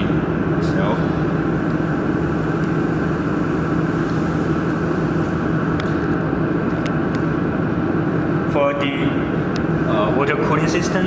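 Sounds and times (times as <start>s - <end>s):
machinery hum and whirr: 0.0s - 11.0s.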